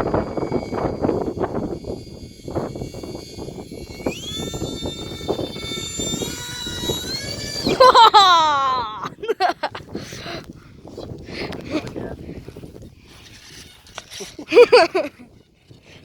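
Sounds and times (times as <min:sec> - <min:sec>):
electric ducted-fan jet whine: 0:00.0 - 0:16.0
wind gusting on microphone: 0:00.0 - 0:16.0.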